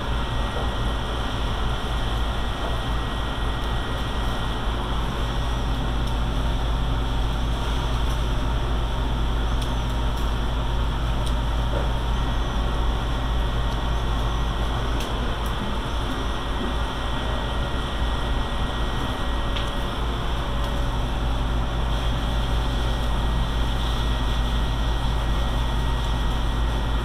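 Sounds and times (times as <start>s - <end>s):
low mechanical rumble and hum: 0.0s - 27.0s.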